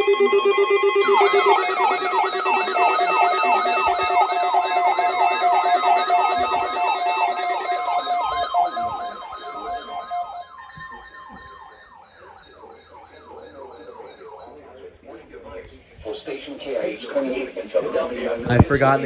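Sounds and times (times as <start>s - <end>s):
rising siren-like alarm sweeps: 0.0s - 18.4s
steady beeping tones: 0.0s - 18.6s.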